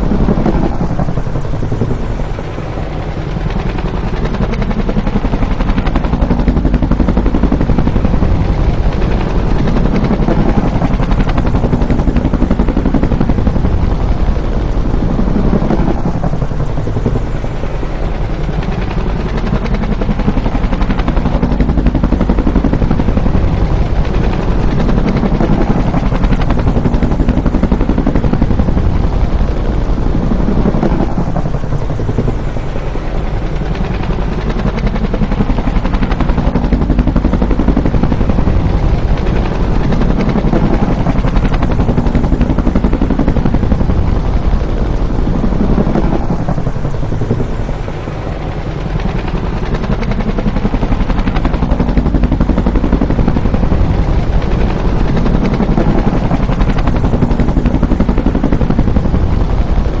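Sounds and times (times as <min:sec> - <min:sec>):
helicopter rotor and turbine: 0:00.0 - 1:00.0.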